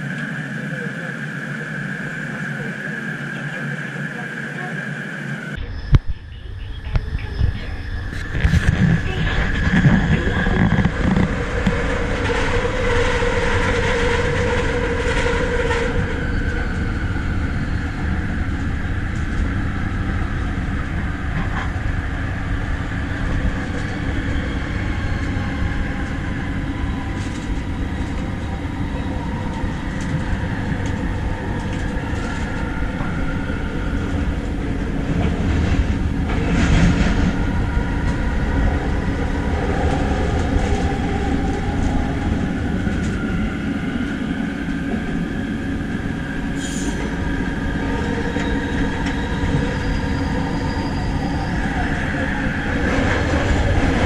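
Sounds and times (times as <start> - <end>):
electric train rumbling: 0.0 - 54.0.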